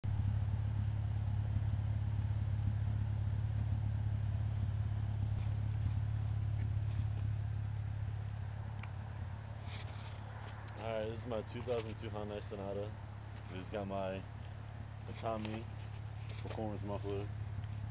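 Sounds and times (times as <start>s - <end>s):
car exhaust idling drone: 0.0s - 17.9s.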